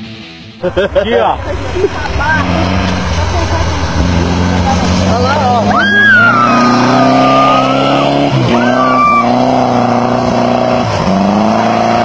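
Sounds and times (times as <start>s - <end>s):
car engine revving hard: 2.1s - 12.0s.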